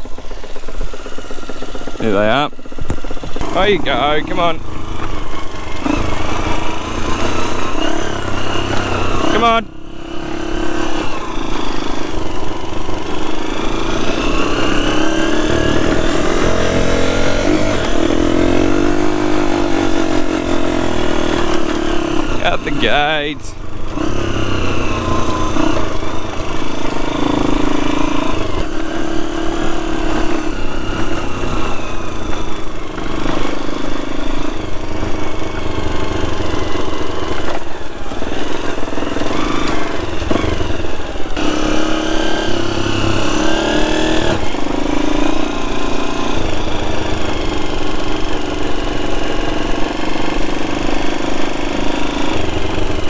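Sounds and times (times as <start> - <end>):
farm bike engine revving: 0.0 - 53.0.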